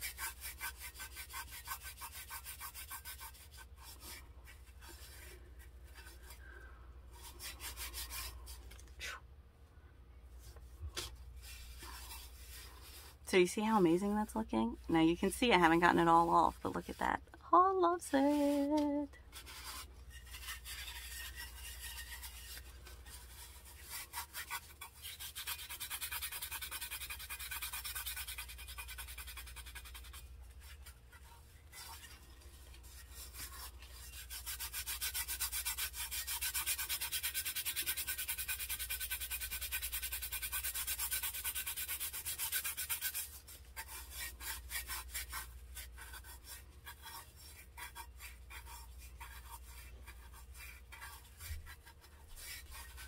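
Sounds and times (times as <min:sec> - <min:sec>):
rubbing on glitter tumbler: 0:00.0 - 0:09.2, 0:11.2 - 0:53.0.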